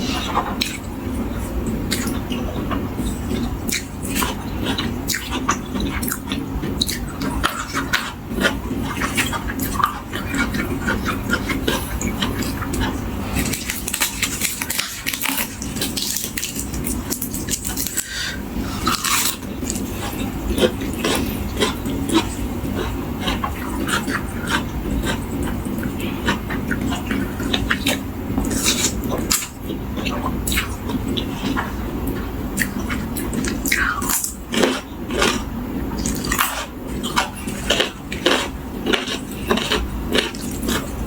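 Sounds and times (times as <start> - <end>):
chewing crunchy vegetables: 0.0 - 41.0.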